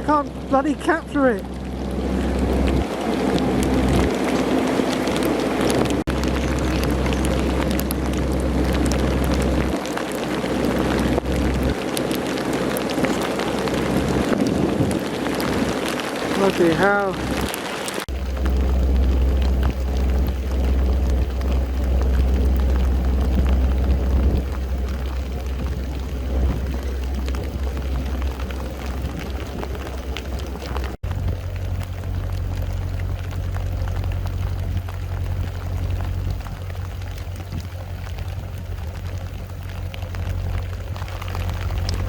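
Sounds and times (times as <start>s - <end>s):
heavy rain pouring: 0.0s - 42.0s
low drone: 1.4s - 16.3s, 17.2s - 42.0s.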